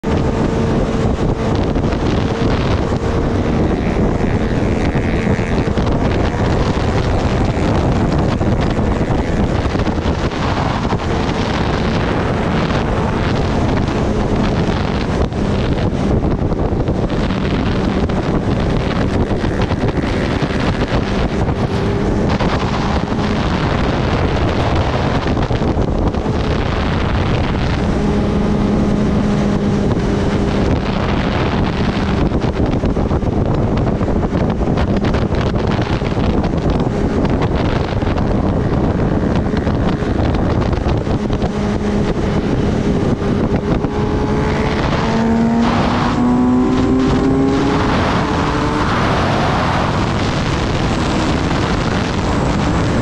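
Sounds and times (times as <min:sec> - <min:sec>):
motorcycle engine humming: 0:00.0 - 0:53.0
wind rushing on microphone: 0:00.0 - 0:53.0.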